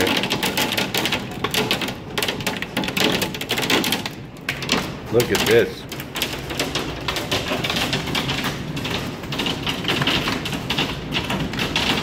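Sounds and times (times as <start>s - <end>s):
hail pelting a wooden deck: 0.0s - 12.0s.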